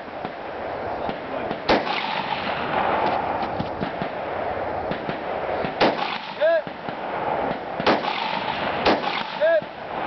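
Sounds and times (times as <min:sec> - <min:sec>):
outdoor background hiss: 0:00.0 - 0:10.0
rifle shots: 0:01.0 - 0:10.0.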